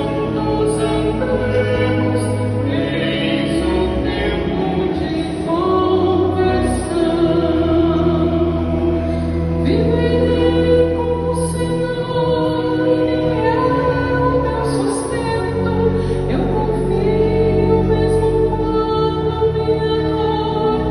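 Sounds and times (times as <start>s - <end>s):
pipe organ playing chords: 0.0s - 20.9s.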